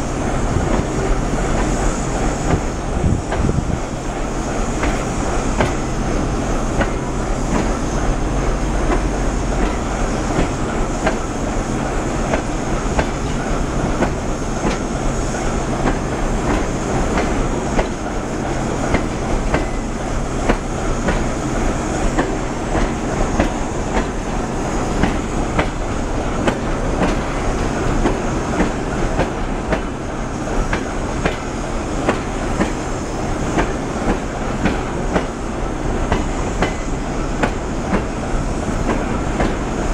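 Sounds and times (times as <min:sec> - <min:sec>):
rumble of train wheels on rail: 0:00.0 - 0:39.9.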